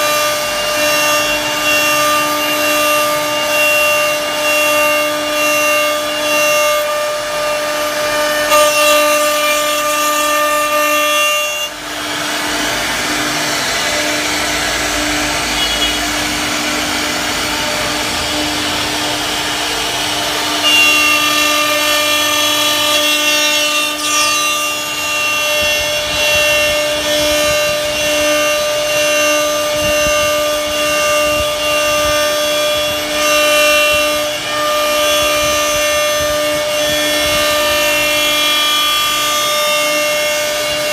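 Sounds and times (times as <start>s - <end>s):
bit cutting wood: 0.0s - 40.9s
router spindle whine: 0.0s - 40.9s.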